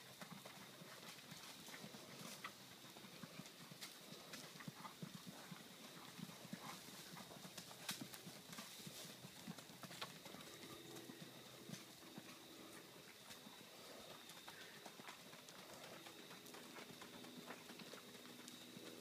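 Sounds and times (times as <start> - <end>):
hoofbeats on sand: 3.0 - 19.0.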